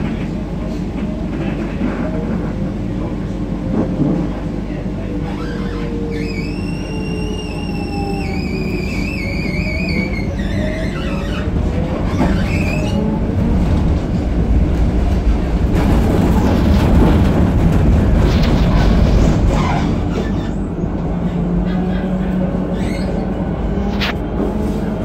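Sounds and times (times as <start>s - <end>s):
tram rumbling on rails: 0.0s - 25.0s.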